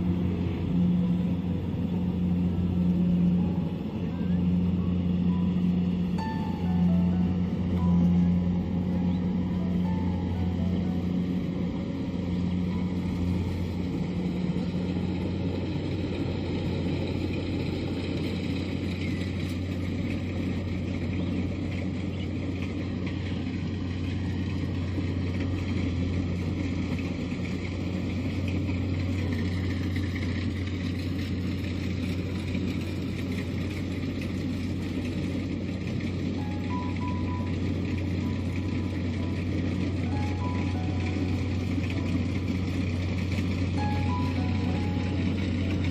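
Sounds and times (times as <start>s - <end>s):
combine harvester engine humming: 0.0s - 45.9s.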